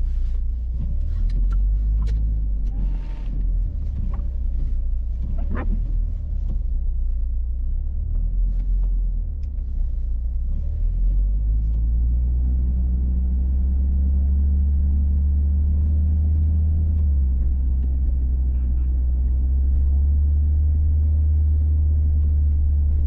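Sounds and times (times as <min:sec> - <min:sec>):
car engine rumble: 0:00.0 - 0:23.0
tyres on the road: 0:00.0 - 0:23.0.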